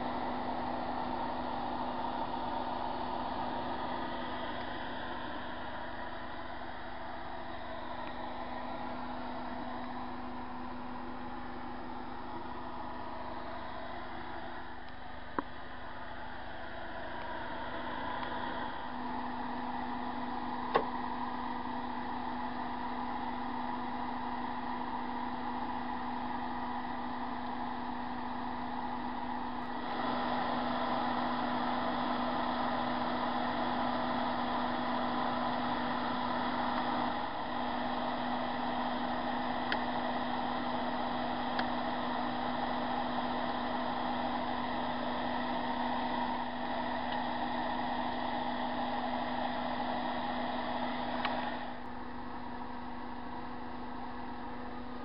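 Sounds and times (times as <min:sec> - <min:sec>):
fan whirring with low hum: 0:00.0 - 0:55.0.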